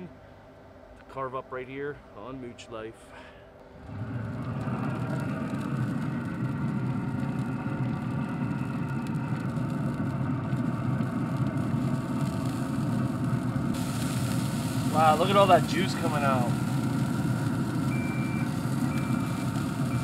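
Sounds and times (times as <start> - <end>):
grill fan humming: 0.0 - 20.0.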